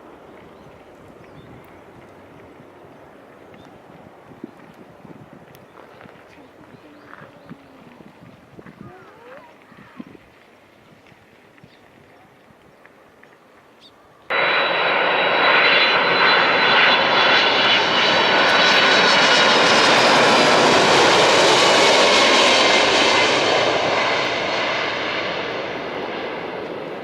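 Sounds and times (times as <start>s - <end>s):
jet engines passing overhead: 0.0s - 12.0s, 12.7s - 27.0s.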